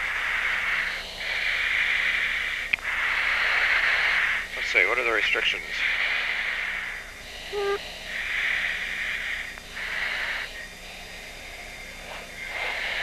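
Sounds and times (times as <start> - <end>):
breathing hiss over intercom: 0.0 - 13.0.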